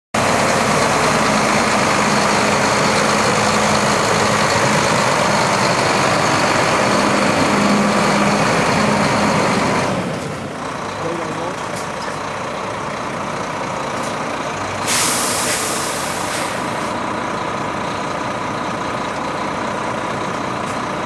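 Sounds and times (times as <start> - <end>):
diesel truck engine idling: 0.2 - 21.0.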